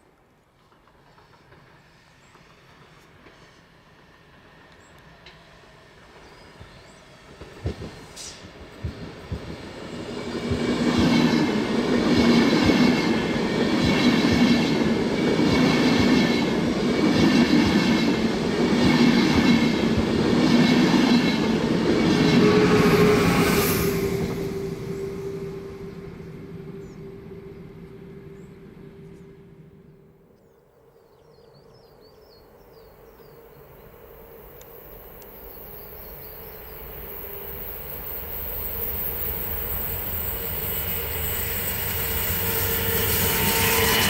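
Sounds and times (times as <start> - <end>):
train passing rumble: 0.4 - 30.4, 31.3 - 44.0.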